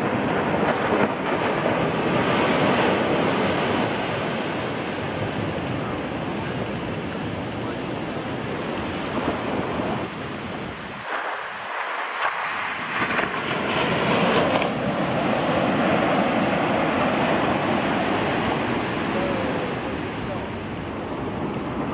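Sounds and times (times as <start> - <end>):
waves washing on shore: 0.0 - 21.9.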